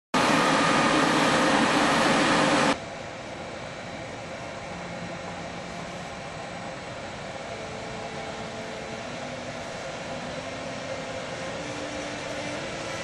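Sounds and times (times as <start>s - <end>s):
electric locomotive running: 0.2s - 13.0s.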